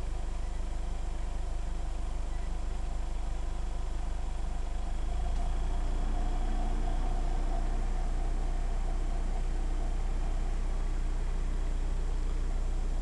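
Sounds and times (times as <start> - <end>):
pickup engine and road rumble: 0.0 - 13.0.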